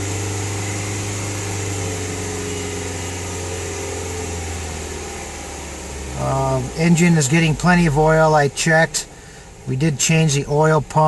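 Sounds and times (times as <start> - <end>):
car engine revving steadily: 0.0 - 11.0.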